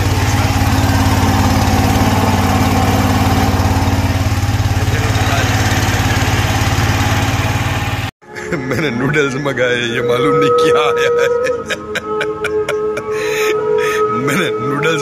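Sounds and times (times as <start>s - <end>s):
boat engine droning: 0.0s - 8.1s, 9.6s - 15.0s.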